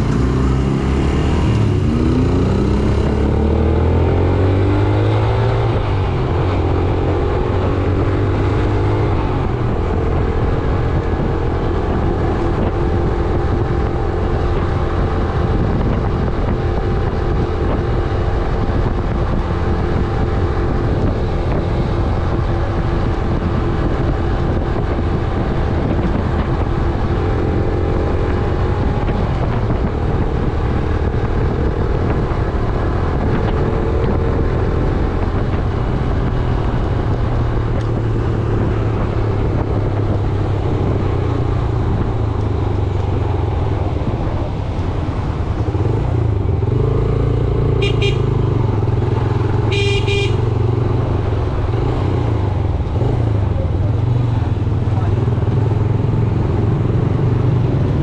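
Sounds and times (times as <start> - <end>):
motorcycle engine accelerating: 0.0 - 58.0
wind rushing over microphone: 0.0 - 58.0.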